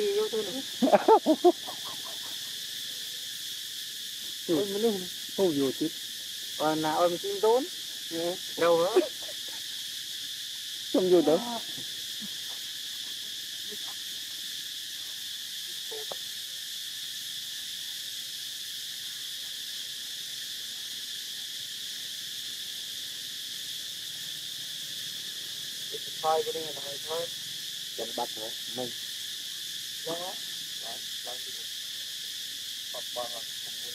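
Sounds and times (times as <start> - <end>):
high-pitched insect drone: 0.0 - 33.9.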